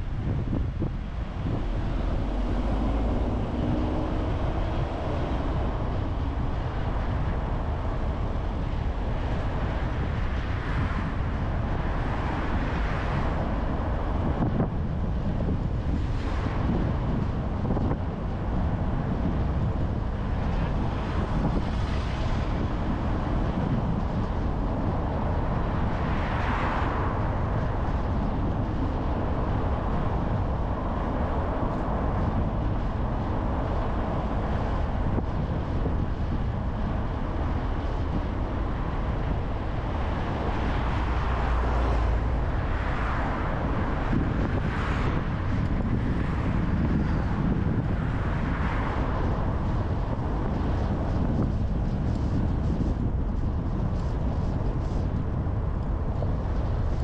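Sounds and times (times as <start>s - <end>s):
car road and engine noise: 0.0s - 57.0s
wind on microphone: 0.0s - 57.0s.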